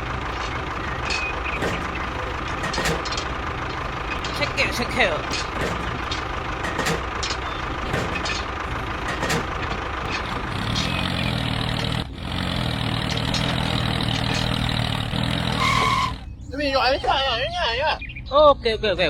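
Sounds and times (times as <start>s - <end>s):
motor running: 0.0s - 16.2s
deep engine-like hum: 0.0s - 19.0s.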